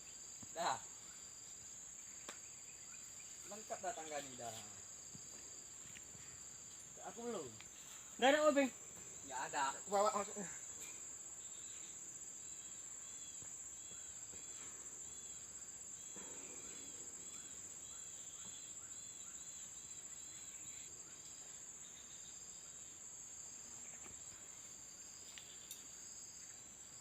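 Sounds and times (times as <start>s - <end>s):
insect drone: 0.0s - 27.0s.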